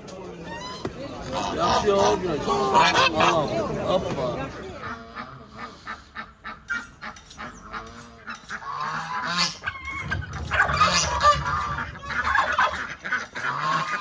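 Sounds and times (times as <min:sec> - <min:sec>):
poultry calling: 0:00.4 - 0:03.8, 0:04.5 - 0:14.0
geese honking: 0:00.5 - 0:03.8, 0:04.4 - 0:14.0.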